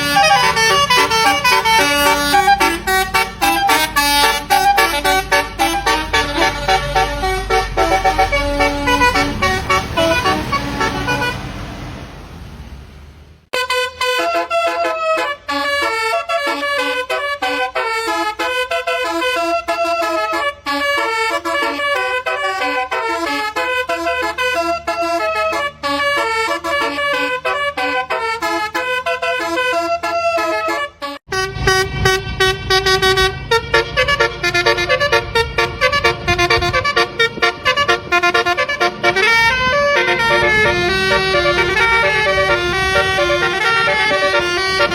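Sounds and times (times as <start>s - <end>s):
bus horn playing melodic tunes: 0.0s - 11.8s, 13.5s - 44.9s.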